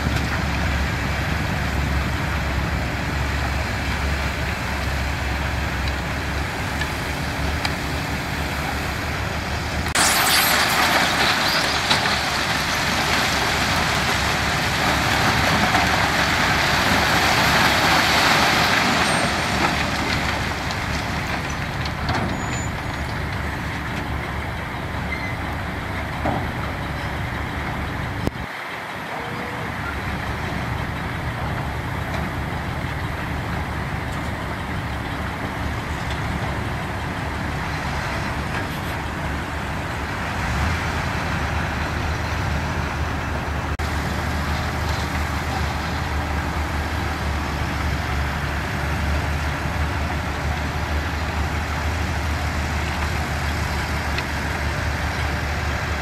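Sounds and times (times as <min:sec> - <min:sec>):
diesel machinery rumbling: 0:00.0 - 0:56.0.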